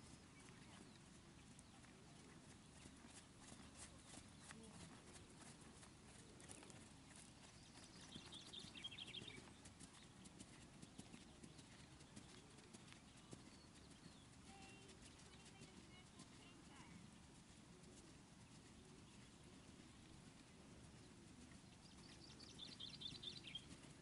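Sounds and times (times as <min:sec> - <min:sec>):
horse hoofbeats on sand: 0:01.6 - 0:17.0, 0:19.1 - 0:24.0.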